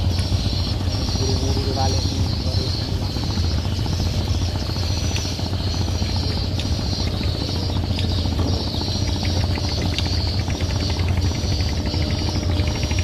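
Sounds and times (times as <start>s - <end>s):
boat engine idling: 0.0s - 13.0s
high engine whine: 0.0s - 13.0s.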